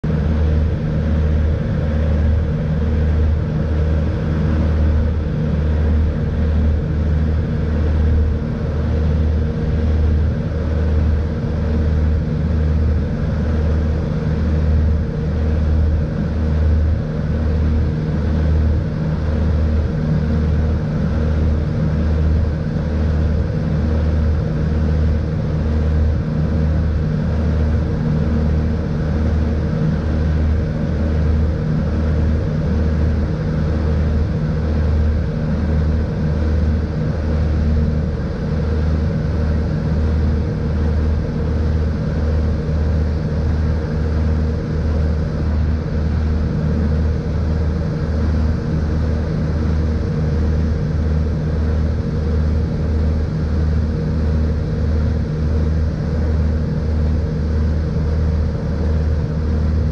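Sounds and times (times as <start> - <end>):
aircraft propeller engines throbbing: 0.0 - 59.9.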